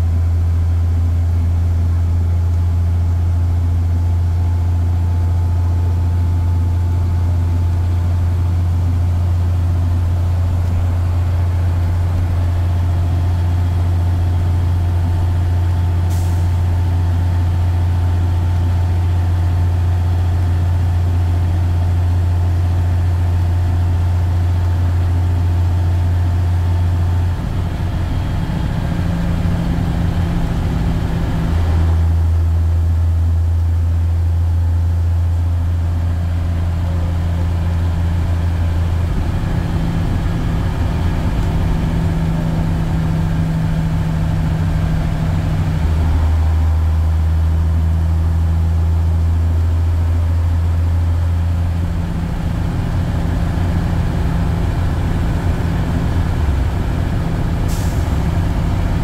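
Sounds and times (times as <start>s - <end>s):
bus diesel engine droning: 0.0s - 59.0s
road noise: 0.0s - 59.0s.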